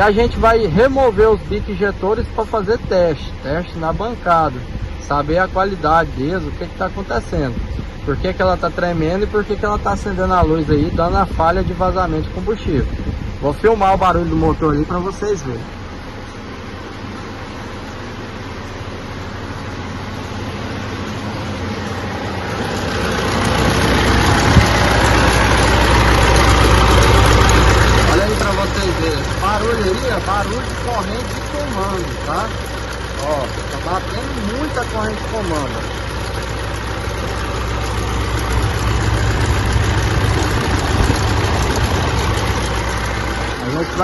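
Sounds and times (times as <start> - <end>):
diesel engine idling with knock: 0.0 - 44.0.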